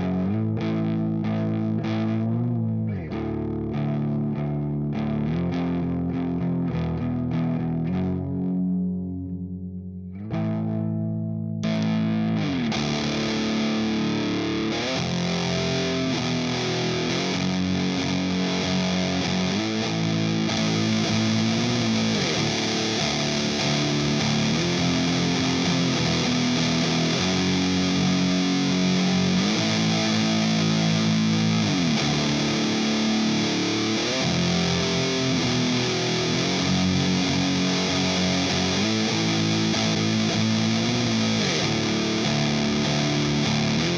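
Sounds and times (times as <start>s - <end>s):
fuzzed electric guitar riffs: 0.0s - 43.9s.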